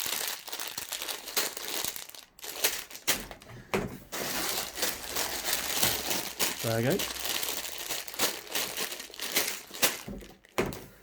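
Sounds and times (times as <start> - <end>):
plastic bags crinkling: 0.0 - 3.5, 4.1 - 11.0.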